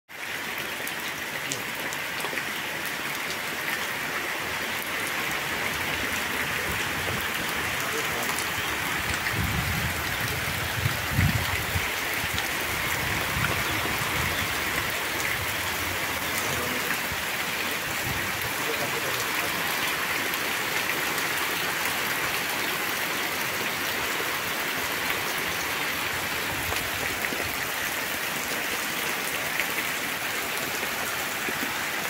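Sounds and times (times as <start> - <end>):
steady rain falling: 0.1 - 32.0.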